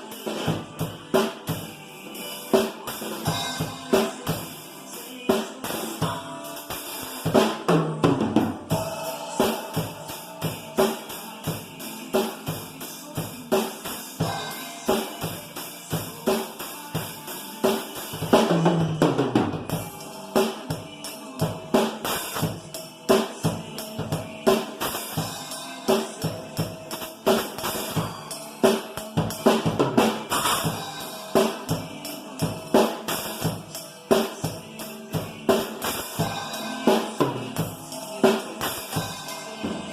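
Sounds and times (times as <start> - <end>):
drum kit fast beat: 0.0 - 39.9.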